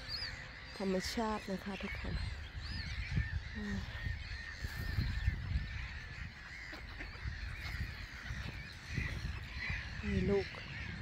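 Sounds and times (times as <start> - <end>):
gulls calling: 0.0 - 11.0
wind rumble on microphone: 0.0 - 11.0.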